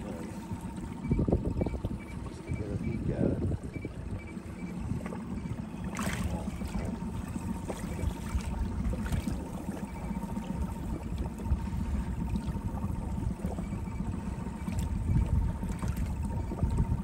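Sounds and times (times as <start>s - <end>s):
outboard motor rumbling: 0.0s - 17.0s
water lapping against hull: 0.0s - 17.0s.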